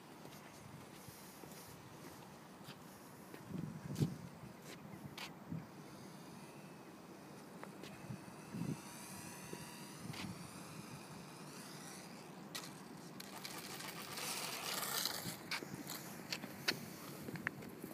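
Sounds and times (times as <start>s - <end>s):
rc plane motor whining: 1.0s - 17.9s.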